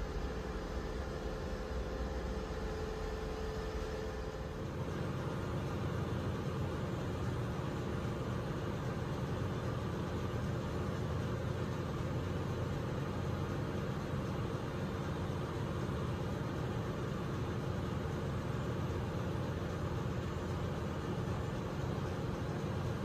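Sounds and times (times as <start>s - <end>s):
ship machinery drone: 0.0s - 23.0s.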